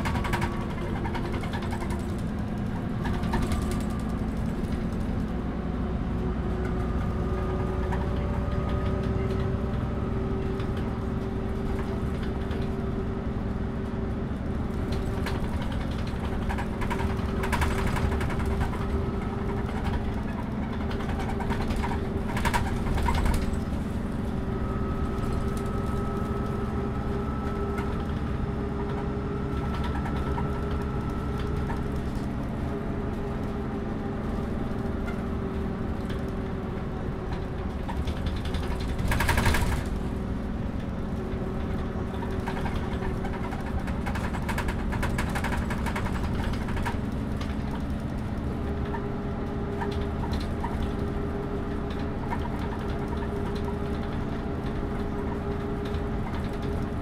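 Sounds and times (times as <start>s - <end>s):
bus body rattling: 0.0s - 57.0s
bus diesel engine running: 0.0s - 57.0s.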